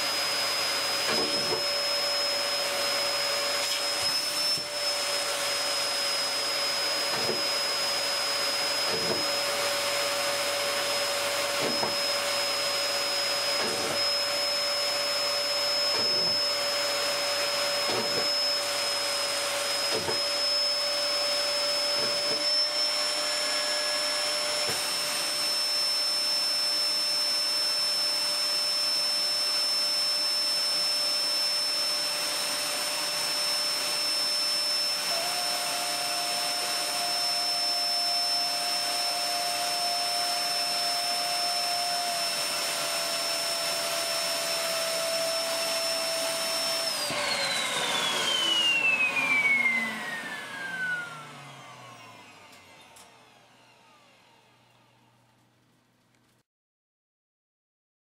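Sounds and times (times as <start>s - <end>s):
vacuum cleaner whining: 0.0s - 55.6s.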